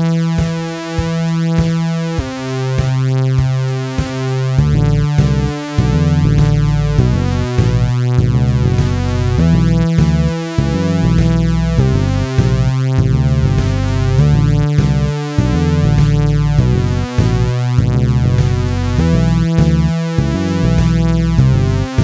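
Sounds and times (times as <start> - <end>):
sequenced synth notes: 0.0 - 22.0
synth bass line: 0.0 - 22.0.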